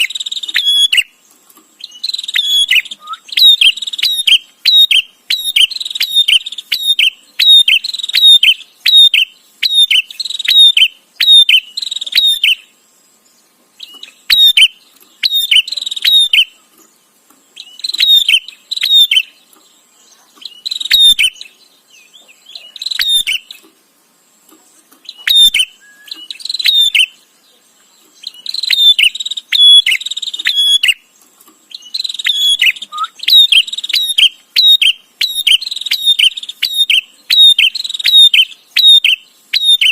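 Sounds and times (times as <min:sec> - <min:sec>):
bird chattering: 0:00.0 - 0:01.1, 0:01.8 - 0:12.7, 0:13.8 - 0:16.6, 0:17.6 - 0:23.7, 0:25.0 - 0:27.2, 0:28.0 - 0:31.0, 0:31.7 - 0:39.9.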